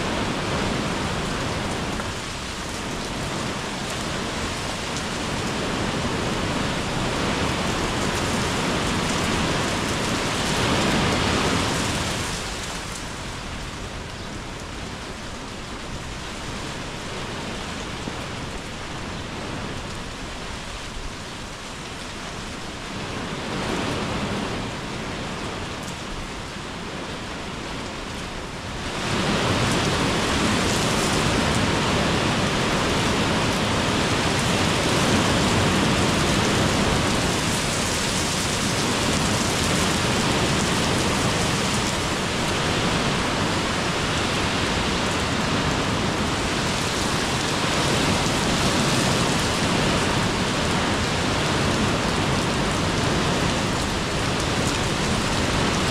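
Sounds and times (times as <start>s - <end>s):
rain on paving: 0.0s - 55.9s.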